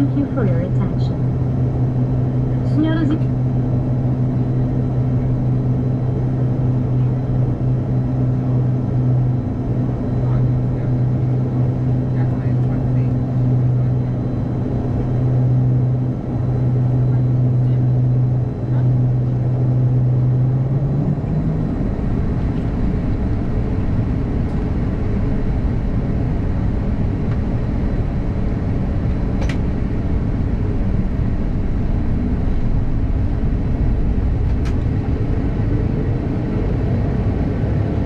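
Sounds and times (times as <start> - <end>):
propeller engines rumbling: 0.0 - 38.0.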